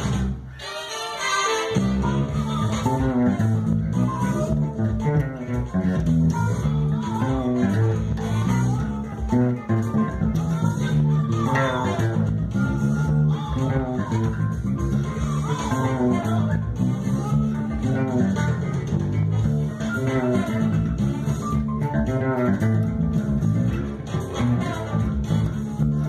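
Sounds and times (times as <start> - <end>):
fretless bass funk line: 0.0 - 0.5, 1.6 - 26.0.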